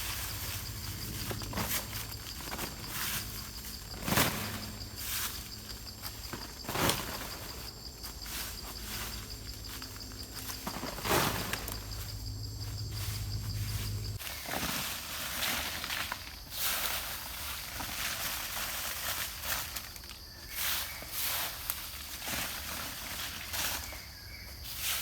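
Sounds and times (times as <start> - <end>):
insect chirping: 0.0 - 25.0.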